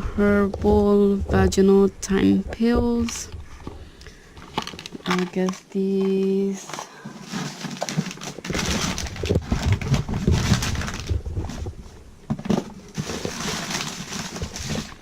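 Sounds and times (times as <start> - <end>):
packaging rustling and rubbing: 2.6 - 15.0.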